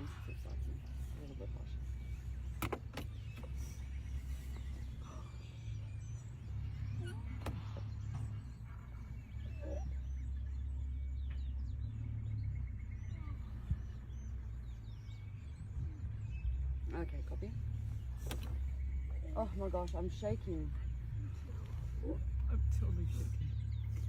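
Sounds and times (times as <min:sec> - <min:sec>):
faint bird chirps and trills: 0:00.0 - 0:24.0
steady low rumble: 0:00.0 - 0:24.0.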